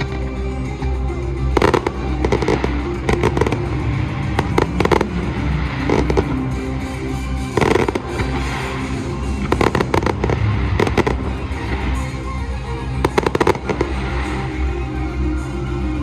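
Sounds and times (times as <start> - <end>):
fireworks bangs and crackles: 0.0 - 15.6
music playing: 0.0 - 16.0.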